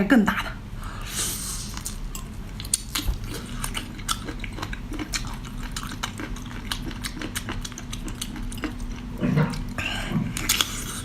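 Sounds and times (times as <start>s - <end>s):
faint steady hum: 0.0s - 11.0s
chewing and biting: 1.6s - 11.0s.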